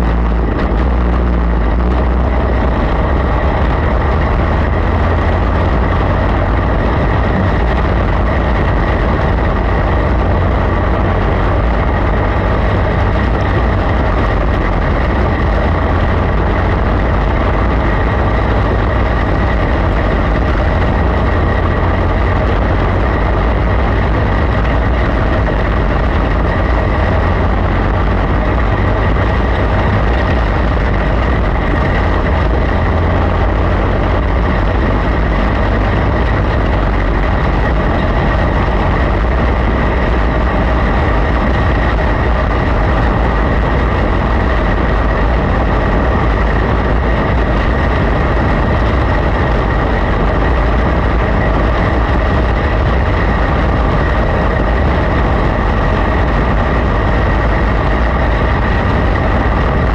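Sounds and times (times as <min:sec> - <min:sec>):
low rumble: 0:00.0 - 0:59.9
race car engine running: 0:00.0 - 0:59.9.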